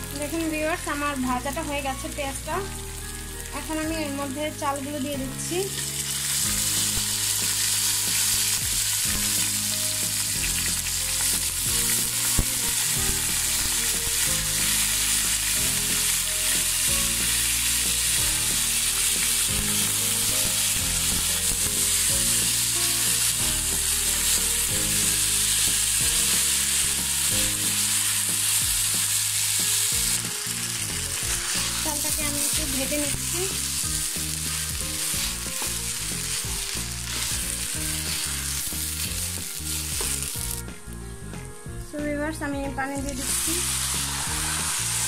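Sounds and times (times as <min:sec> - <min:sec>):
rice sizzling in oil: 0:00.0 - 0:41.0, 0:42.8 - 0:45.0.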